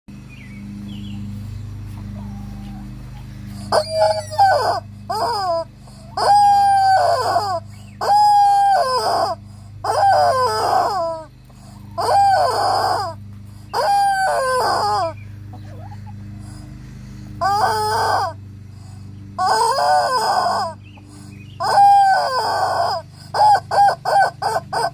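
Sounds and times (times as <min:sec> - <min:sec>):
steady low hum: 0:00.1 - 0:24.9
rubber chicken toy squawking: 0:03.5 - 0:16.6, 0:17.4 - 0:24.9.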